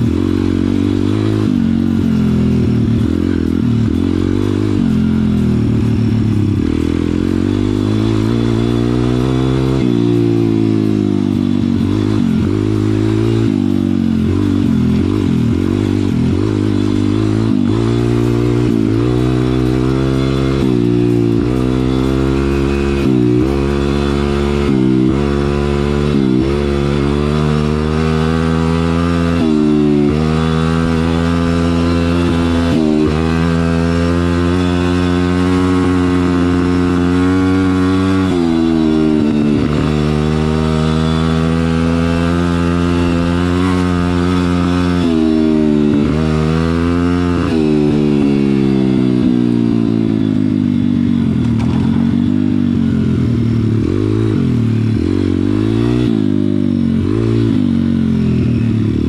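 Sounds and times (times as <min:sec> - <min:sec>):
motorbike engine revving through gears: 0:00.0 - 0:59.0.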